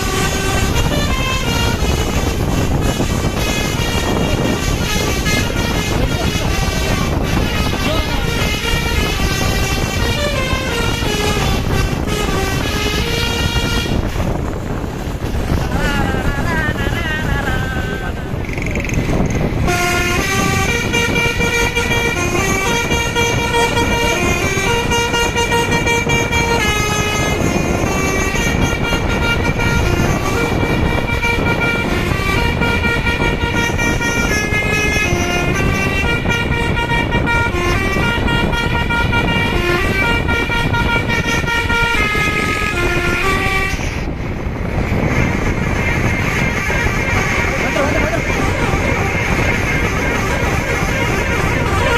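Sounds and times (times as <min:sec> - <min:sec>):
multi-tone bus horn tune: 0:00.0 - 0:51.9.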